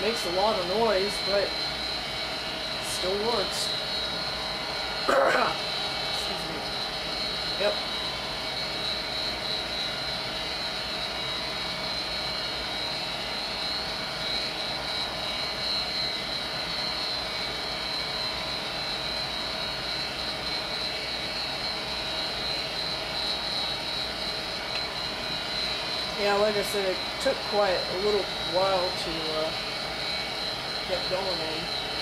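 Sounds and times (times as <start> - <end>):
gas furnace running: 0.0 - 32.0
motor high whine: 0.0 - 32.0.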